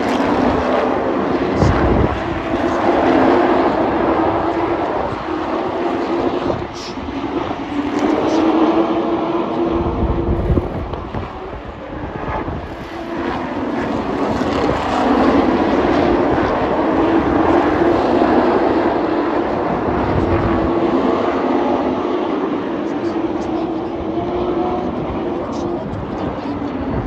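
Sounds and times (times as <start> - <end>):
race truck engines droning: 0.0 - 27.0.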